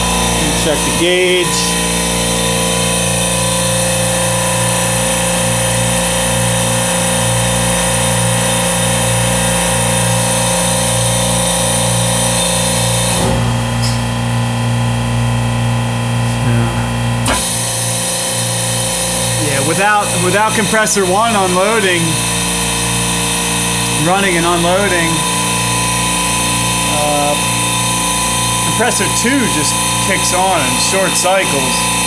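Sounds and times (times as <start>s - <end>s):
refrigeration compressors humming: 0.0s - 32.0s.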